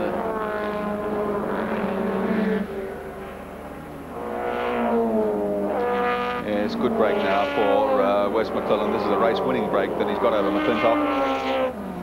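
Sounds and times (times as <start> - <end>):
sports car engine at racing speed: 0.0 - 12.0.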